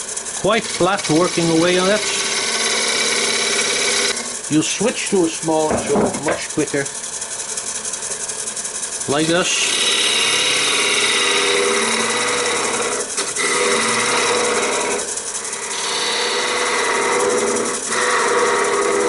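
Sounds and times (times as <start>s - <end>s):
lathe hum: 0.0s - 19.0s
tool scraping spinning wood: 0.0s - 19.0s.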